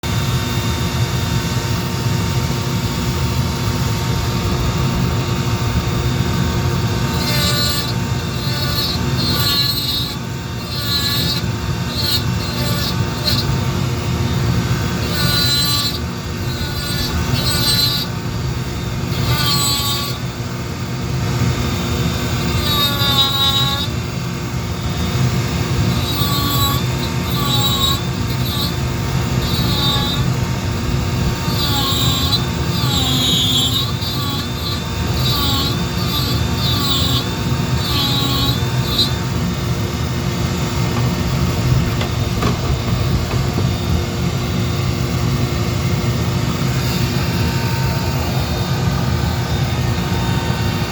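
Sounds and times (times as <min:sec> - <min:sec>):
power carving tool whining: 0:00.0 - 0:50.9.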